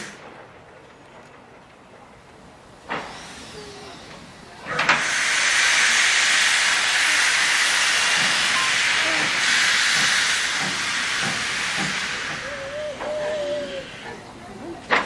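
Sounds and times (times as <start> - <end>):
steam locomotive hissing steam: 0.0 - 0.4, 2.8 - 15.0.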